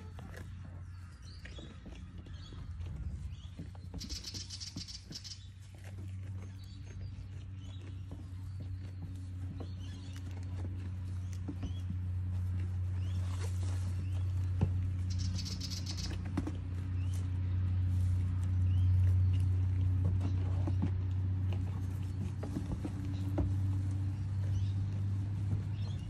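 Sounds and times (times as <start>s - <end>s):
goats chewing hay: 0.0s - 26.0s.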